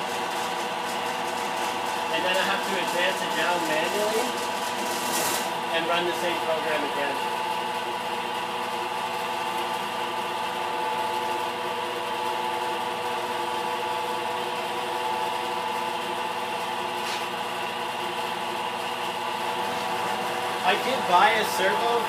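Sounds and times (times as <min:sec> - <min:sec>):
milling machine spindle whine: 0:00.0 - 0:22.0.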